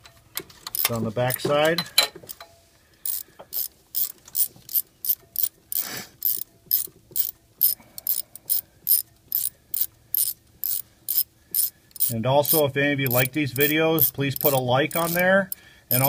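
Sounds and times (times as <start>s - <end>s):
ratchet wrench clicking: 0.7s - 1.4s, 3.0s - 16.0s
ratchet scraping stroke: 3.0s - 16.0s.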